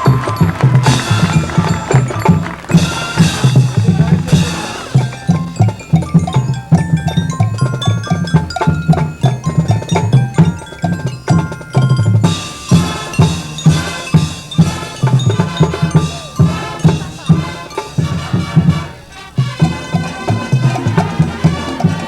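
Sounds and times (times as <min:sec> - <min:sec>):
drums in driving pattern: 0:00.0 - 0:22.0
mallet keyboards: 0:00.0 - 0:22.0
wood-block accents: 0:00.0 - 0:22.0.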